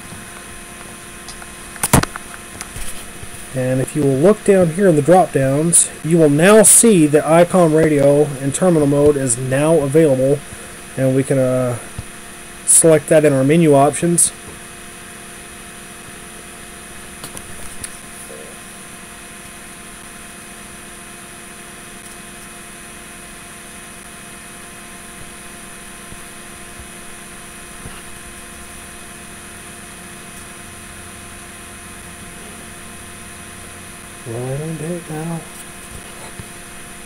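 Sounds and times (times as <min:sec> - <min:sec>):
electrical hum and hiss: 0:00.0 - 0:37.0.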